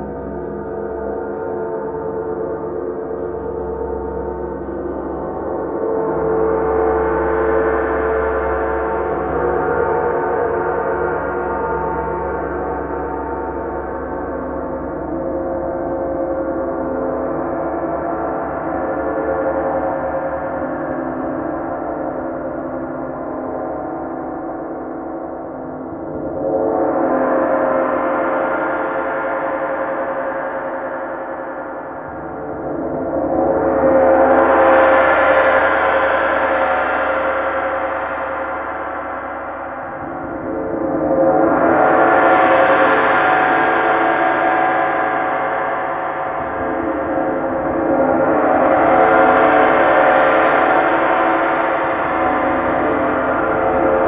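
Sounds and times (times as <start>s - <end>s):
gong rolling with soft mallets: 0.0s - 54.0s.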